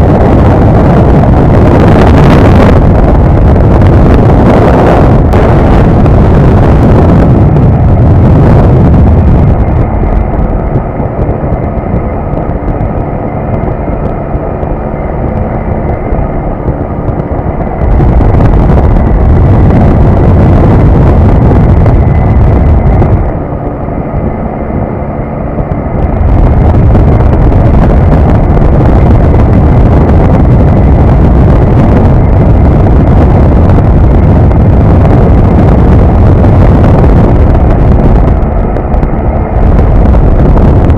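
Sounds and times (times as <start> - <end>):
aircraft engine drone: 0.0 - 40.9
wind buffeting microphone: 0.0 - 40.9.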